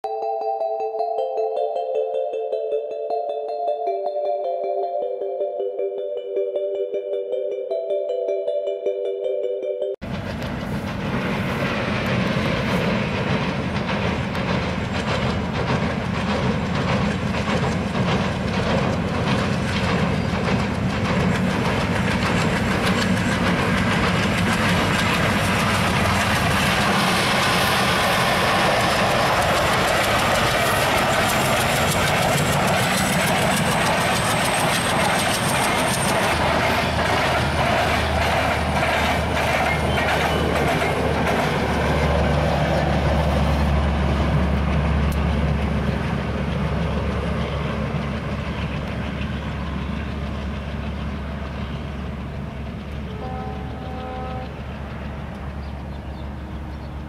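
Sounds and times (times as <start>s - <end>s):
train wheels clacking: 10.0s - 56.2s
train rumble: 10.0s - 57.0s.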